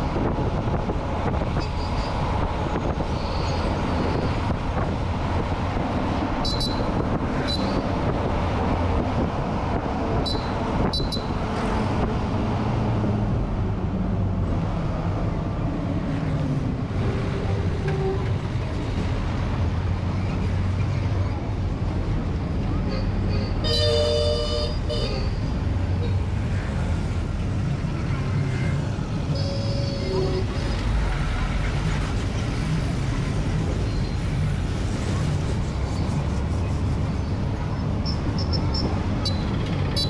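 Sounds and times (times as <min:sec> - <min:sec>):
road and tyre noise: 0:00.0 - 0:40.0.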